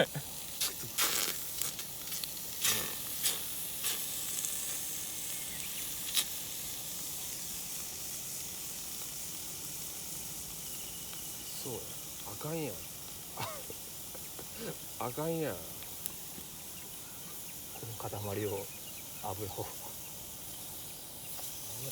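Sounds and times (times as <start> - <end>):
fire crackles: 0.0 - 21.9
food sizzling on hot plate: 0.0 - 21.9.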